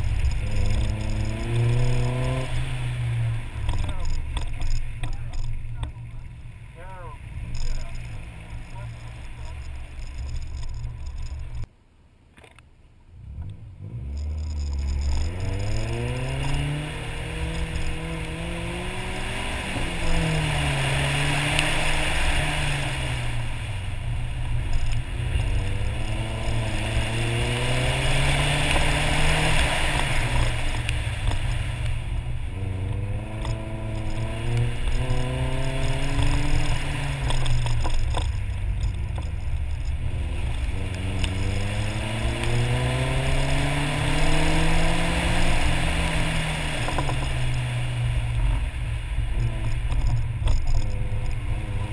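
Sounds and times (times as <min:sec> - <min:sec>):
car engine revving: 0:00.0 - 0:11.7, 0:13.2 - 0:51.9
wet tyres hissing: 0:00.0 - 0:11.7, 0:13.9 - 0:50.4.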